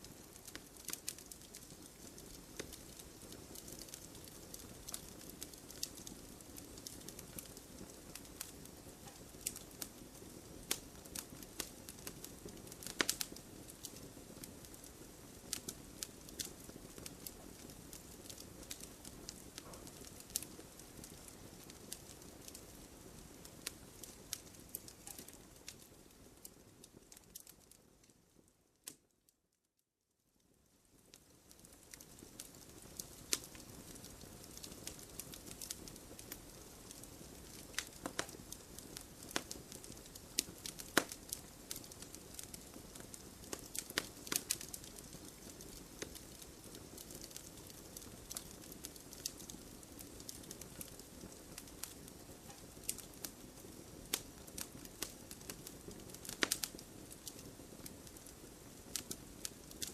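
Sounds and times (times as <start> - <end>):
campfire crackling and popping: 0.0 - 29.1, 30.4 - 59.9.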